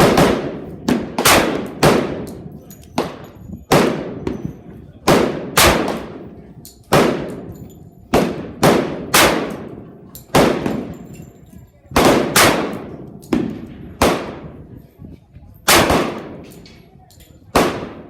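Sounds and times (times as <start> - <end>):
pistol shots with echo: 0.0 - 11.2, 11.9 - 14.7, 15.6 - 16.7, 17.5 - 18.0.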